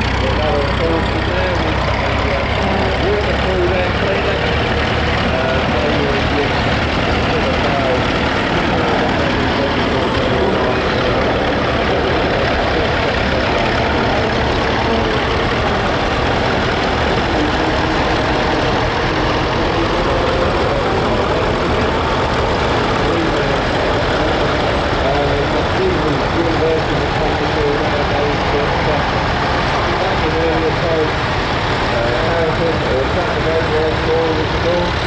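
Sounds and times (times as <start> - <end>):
tractor engines running: 0.0 - 35.0.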